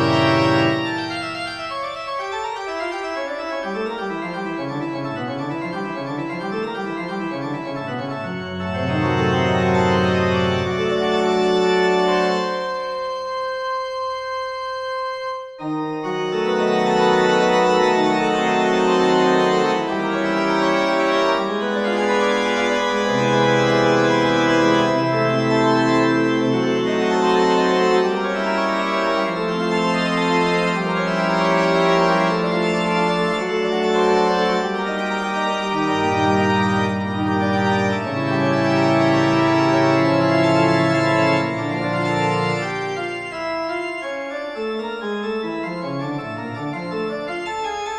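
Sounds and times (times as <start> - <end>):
organ chords: 0.0 - 47.9.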